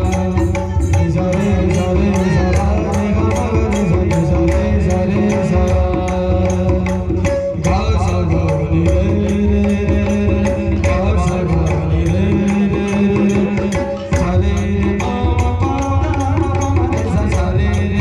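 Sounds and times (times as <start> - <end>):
hand drum rhythm: 0.0 - 18.0.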